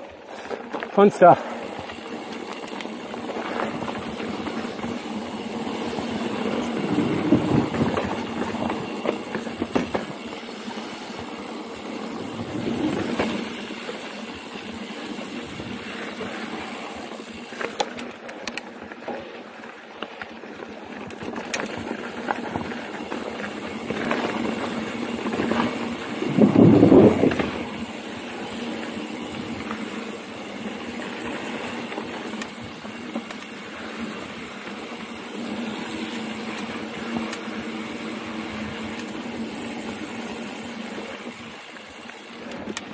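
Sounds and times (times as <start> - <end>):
bike rattles and knocks: 0.0 - 42.9
bike tyres on dirt trail: 0.0 - 42.9.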